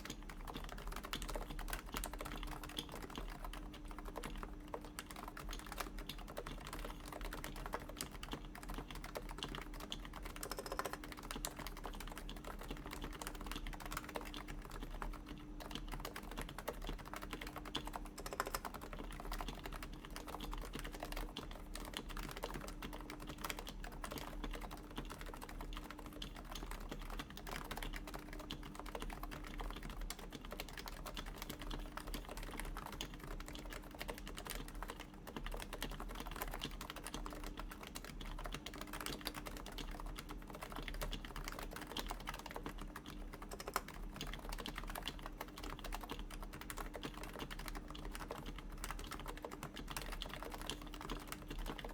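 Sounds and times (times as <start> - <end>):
fast typing on keyboard: 0.0 - 51.9.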